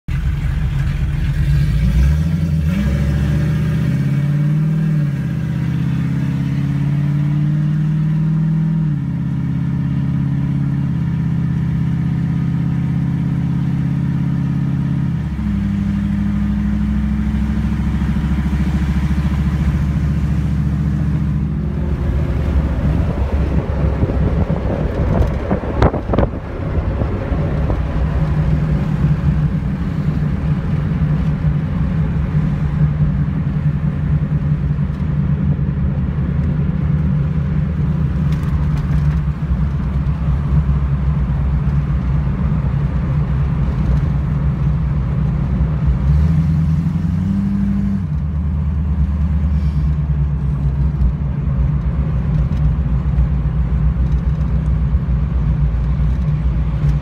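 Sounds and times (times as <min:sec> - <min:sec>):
car engine accelerating: 0:00.1 - 0:57.0.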